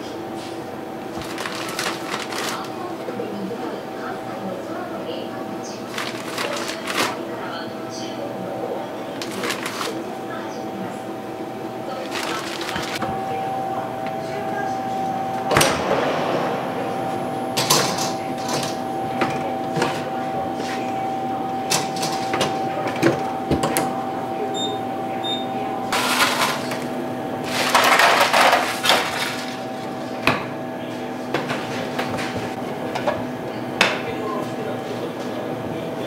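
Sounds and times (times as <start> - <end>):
equipment hum: 0.0 - 36.0.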